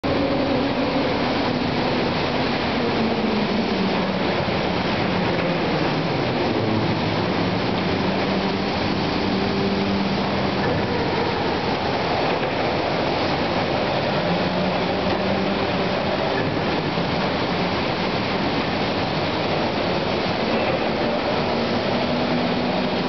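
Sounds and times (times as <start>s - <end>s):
industrial roar: 0.0s - 23.0s
low motor hum: 0.0s - 23.0s.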